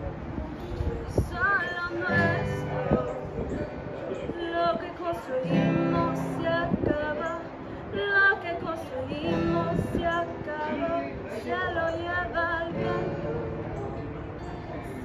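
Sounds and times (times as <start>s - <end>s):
strummed acoustic guitar: 0.0s - 15.0s
woman singing: 0.9s - 14.1s.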